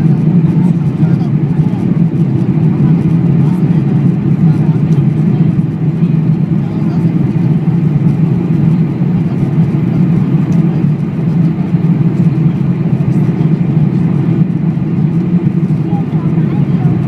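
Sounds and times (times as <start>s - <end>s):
jet engines droning: 0.0s - 17.0s.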